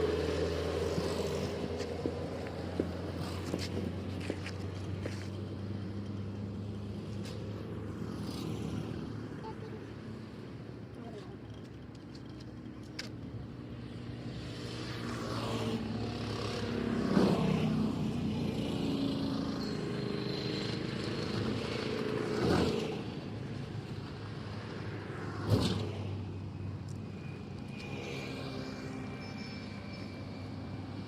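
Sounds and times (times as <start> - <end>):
vehicles passing on road: 0.0 - 31.0.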